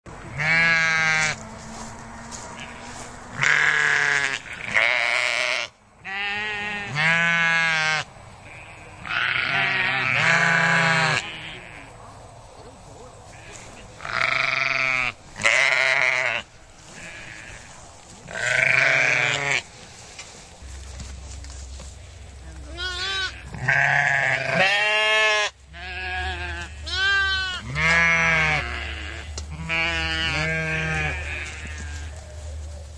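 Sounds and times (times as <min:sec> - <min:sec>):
sheep bleating: 0:00.3 - 0:01.4, 0:02.4 - 0:11.9, 0:13.3 - 0:19.7, 0:22.7 - 0:32.1.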